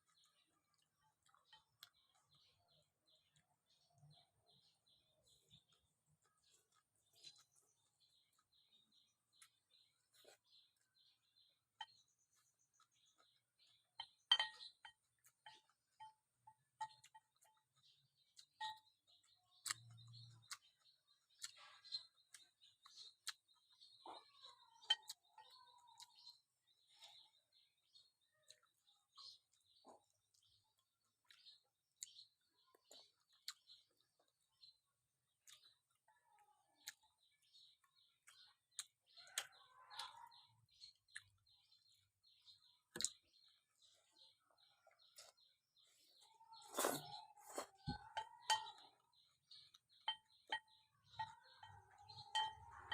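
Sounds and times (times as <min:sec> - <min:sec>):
faint high chirping: 0:00.0 - 0:52.9.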